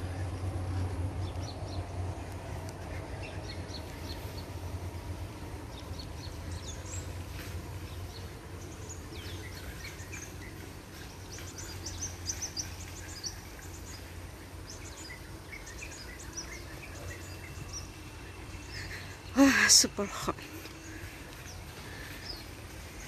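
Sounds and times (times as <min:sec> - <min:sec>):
birds chirping and calling: 0:00.0 - 0:23.0
steady low rumble: 0:00.0 - 0:23.0.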